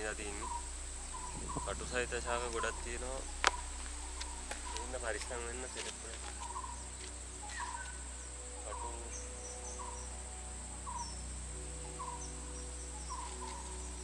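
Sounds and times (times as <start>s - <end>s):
high-pitched insect drone: 0.0s - 14.0s
higher bird chirps: 0.0s - 14.0s.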